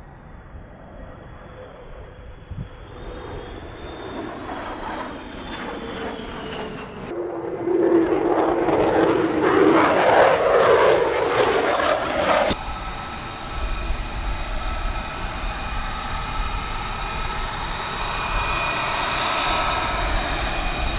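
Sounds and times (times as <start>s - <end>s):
fighter jet flying overhead: 0.0s - 20.9s
jet engines whining on runway: 0.0s - 20.9s.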